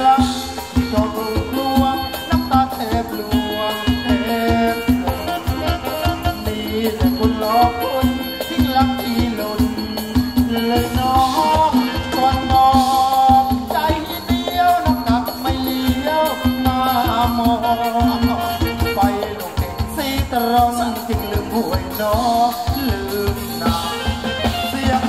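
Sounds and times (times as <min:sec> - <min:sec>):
live dance band playing: 0:00.0 - 0:25.0.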